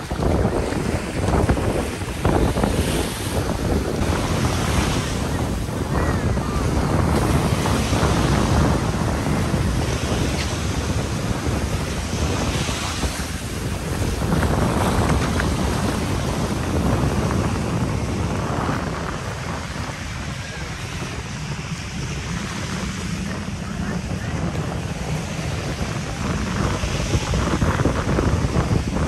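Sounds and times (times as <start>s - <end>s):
surf washing onto beach: 0.0s - 29.0s
wind rumbling on microphone: 0.0s - 29.0s.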